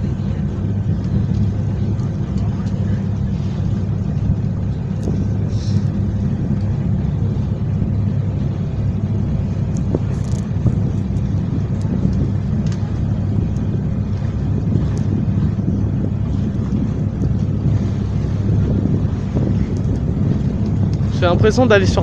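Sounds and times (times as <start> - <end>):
motorboat engine drone: 0.0 - 22.0
wake water rushing: 0.0 - 22.0.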